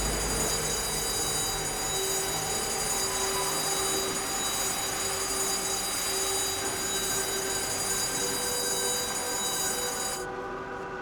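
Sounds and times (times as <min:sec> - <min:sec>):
sawmill machinery din: 0:00.0 - 0:10.2
high-pitched machine whines: 0:00.0 - 0:10.6.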